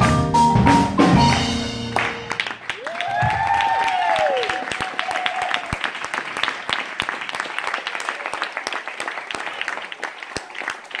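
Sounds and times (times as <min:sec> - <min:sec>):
audience applauding: 0:01.3 - 0:11.0
close hands clapping: 0:01.9 - 0:11.0.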